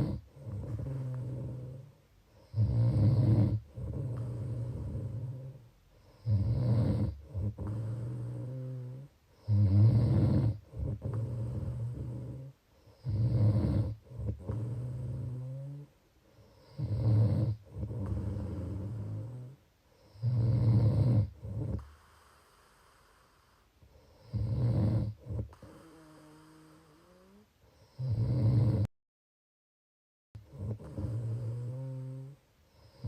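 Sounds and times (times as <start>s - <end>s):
person snoring: 0.0s - 28.9s, 30.5s - 33.0s
quiet breathing: 0.0s - 28.9s, 30.4s - 33.0s.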